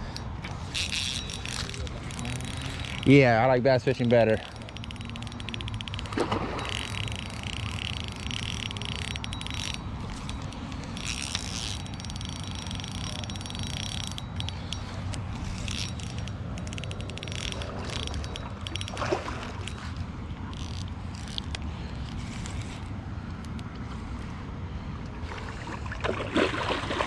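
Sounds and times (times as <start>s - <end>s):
fishing reel whirring and ticking: 0.0s - 24.3s.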